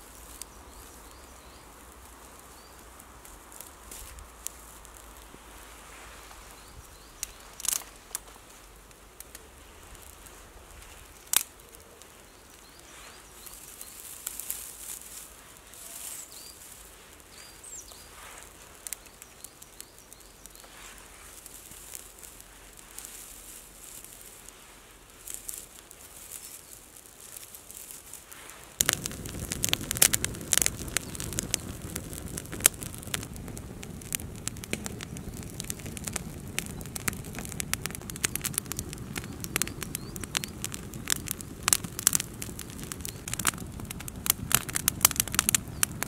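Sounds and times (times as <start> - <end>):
small fire crackling and hissing: 0.0 - 46.0
twigs snapping in fire: 0.0 - 46.0.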